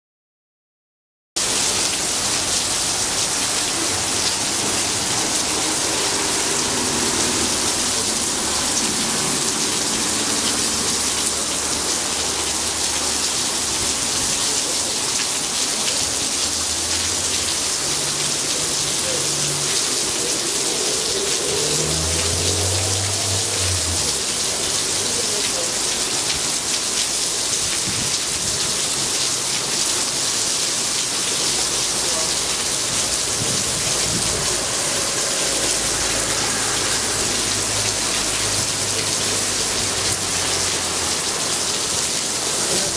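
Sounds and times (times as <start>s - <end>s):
torrential rain on pavement: 1.4s - 42.9s.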